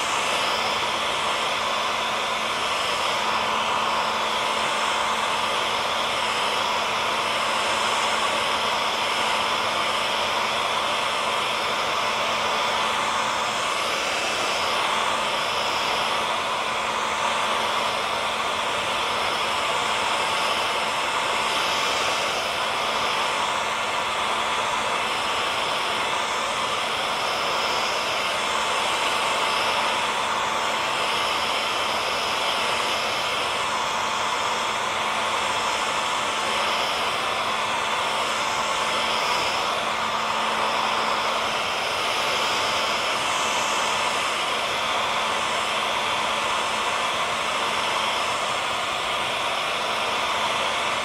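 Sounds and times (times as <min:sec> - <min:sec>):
faint high whine: 0:00.0 - 0:51.0
hair dryer running: 0:00.0 - 0:51.0.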